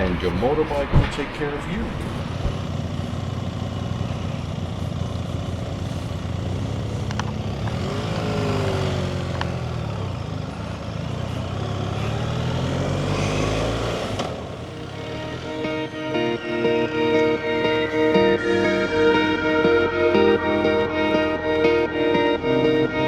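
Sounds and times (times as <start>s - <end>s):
road and wind noise: 0.0s - 23.0s
motorcycle engine running: 1.7s - 23.0s.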